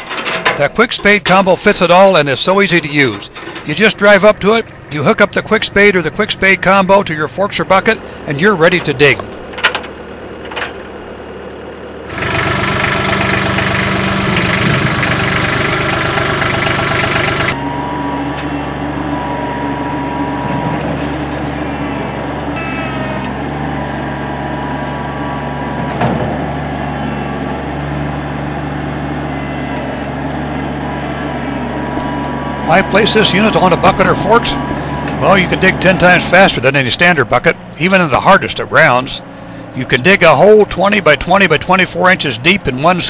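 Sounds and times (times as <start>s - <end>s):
loader engine running: 0.0s - 43.0s.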